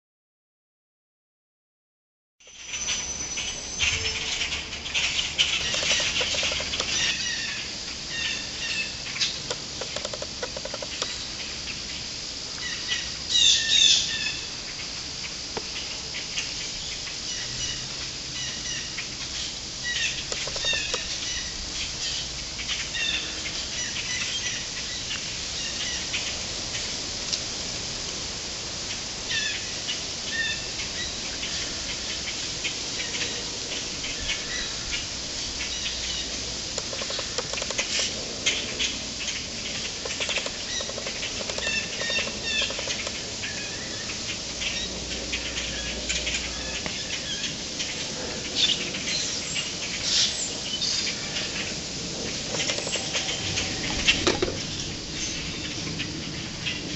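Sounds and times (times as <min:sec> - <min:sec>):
flock of birds chirping: 0:02.4 - 0:27.5, 0:28.8 - 0:56.9.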